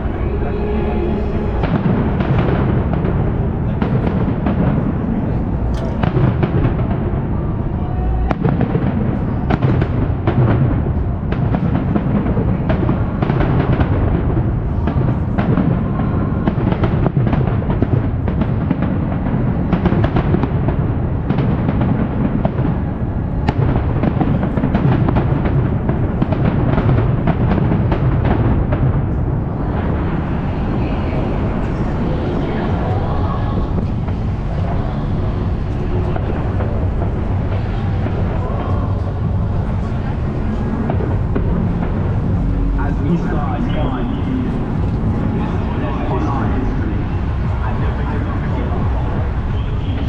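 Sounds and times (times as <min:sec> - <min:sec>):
deep rumble: 0:00.0 - 0:50.0
fireworks bangs: 0:00.0 - 0:50.0.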